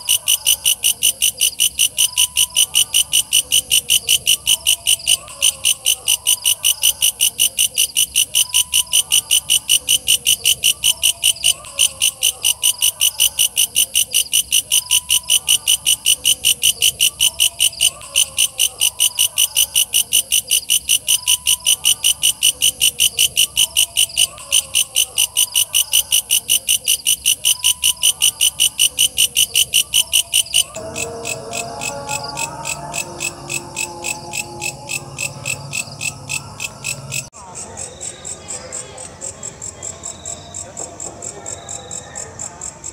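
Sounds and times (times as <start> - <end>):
bush cricket pulsing call: 0.0 - 40.7.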